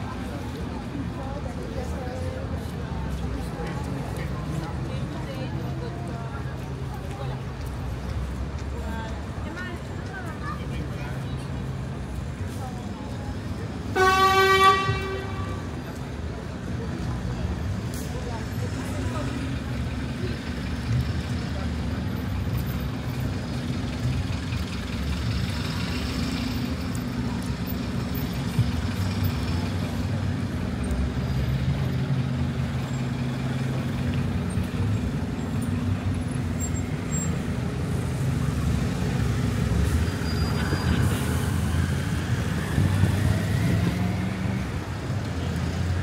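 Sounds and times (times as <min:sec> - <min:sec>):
city street traffic: 0:00.0 - 0:46.0
heavy vehicle engine rumbling: 0:00.0 - 0:46.0.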